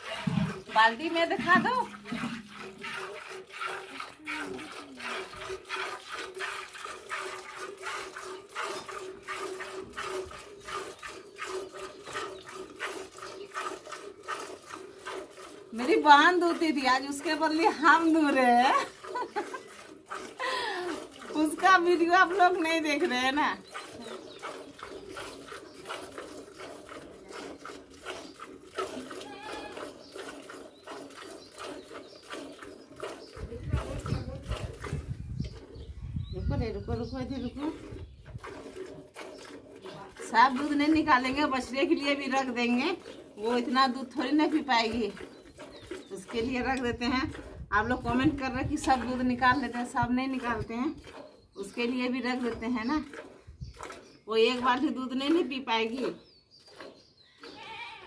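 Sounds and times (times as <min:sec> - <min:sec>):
milk squirting into steel bucket: 0:00.0 - 0:57.7.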